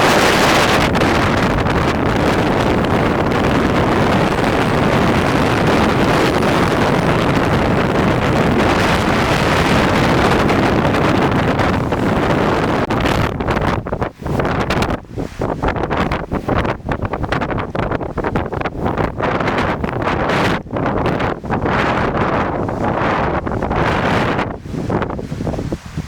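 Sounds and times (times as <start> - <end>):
wind blowing across microphone: 0.0 - 26.0.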